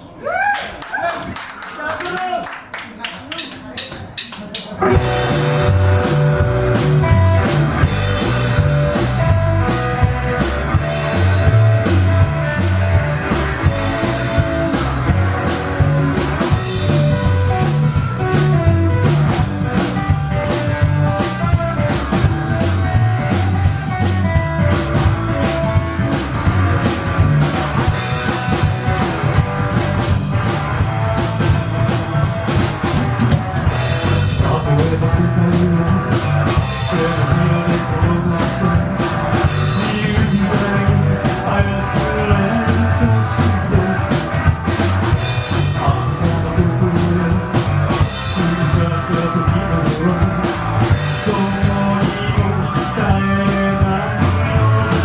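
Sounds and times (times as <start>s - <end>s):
rockabilly band playing: 0.7s - 55.0s.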